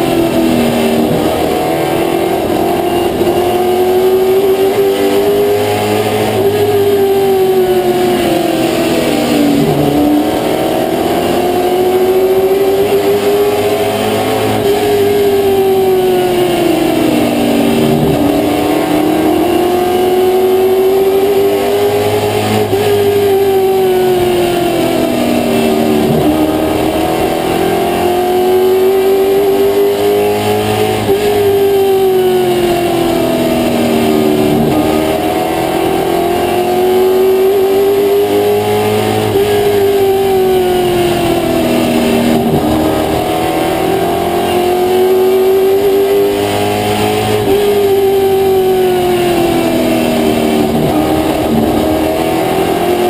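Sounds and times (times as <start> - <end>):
race car engine at speed: 0.0 - 53.0.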